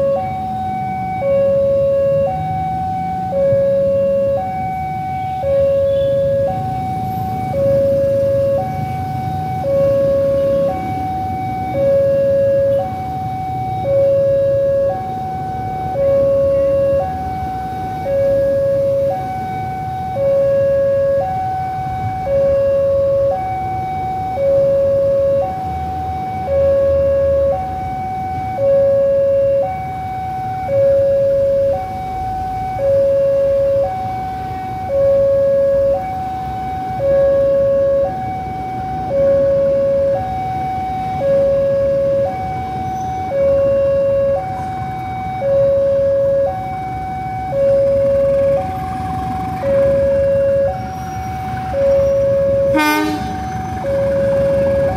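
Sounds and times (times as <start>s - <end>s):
two-tone railway warning alarm: 0.0s - 54.9s.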